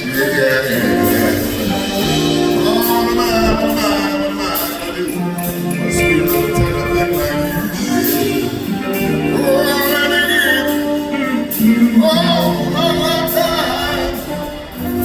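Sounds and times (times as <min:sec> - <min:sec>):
live soul ballad band: 0:00.0 - 0:15.0
singer holding wavering notes: 0:00.0 - 0:15.0.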